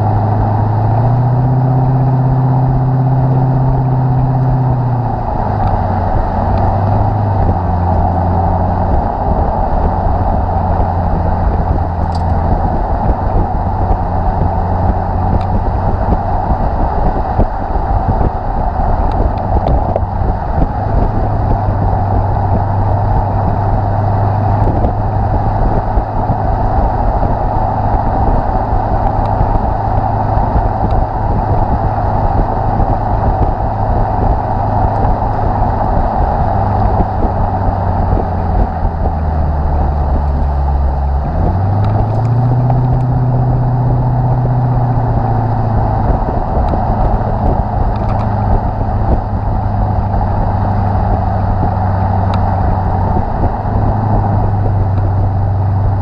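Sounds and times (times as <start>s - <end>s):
car exhaust note: 0.0s - 56.0s
road noise: 0.0s - 56.0s.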